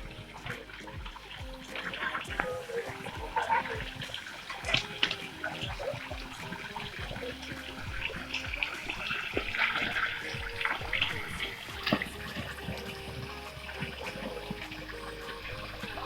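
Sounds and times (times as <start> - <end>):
background music: 0.0 - 16.0
water rushing and splashing: 0.0 - 16.0.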